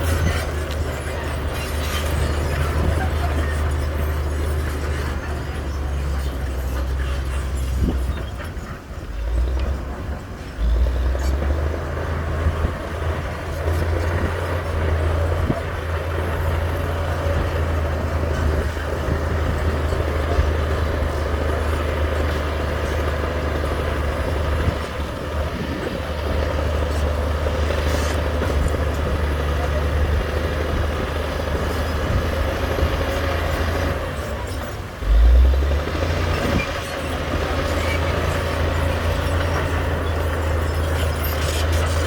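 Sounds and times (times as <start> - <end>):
diesel machinery engine drone: 0.0 - 42.0.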